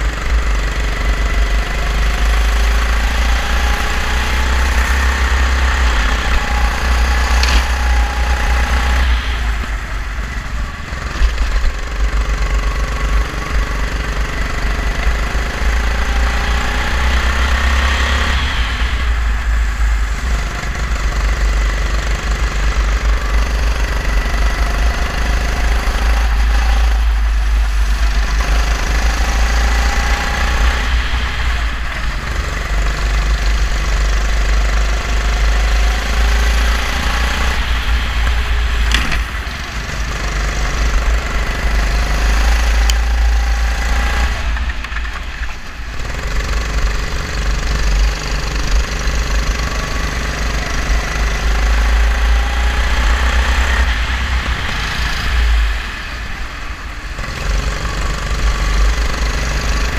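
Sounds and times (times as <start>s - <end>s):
go-kart engine racing: 0.0s - 59.9s.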